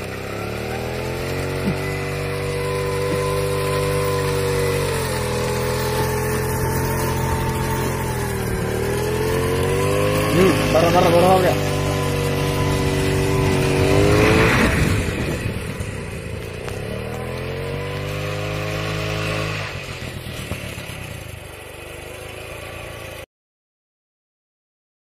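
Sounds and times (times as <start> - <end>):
scooter engine revving: 0.0 - 23.3.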